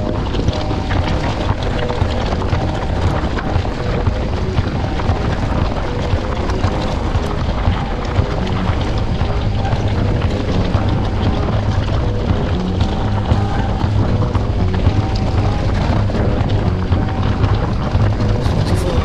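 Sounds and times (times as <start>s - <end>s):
bike rattling on rough trail: 0.0s - 19.0s
wind rushing over microphone: 0.0s - 19.0s.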